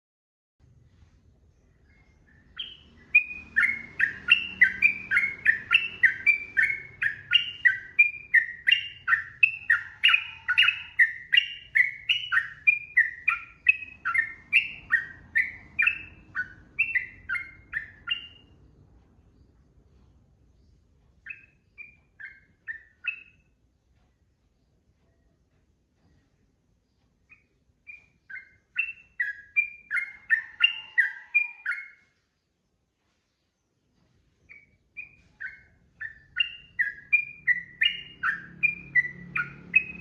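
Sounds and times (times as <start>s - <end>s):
bird rapid chirping song: 1.5s - 23.6s, 26.1s - 32.4s, 34.3s - 40.0s.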